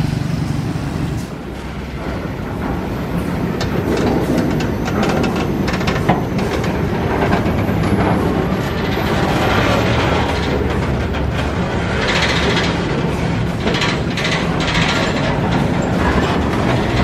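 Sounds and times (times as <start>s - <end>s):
train wagons rumbling: 0.0s - 17.0s
steel wheels clattering on rails: 0.2s - 17.0s.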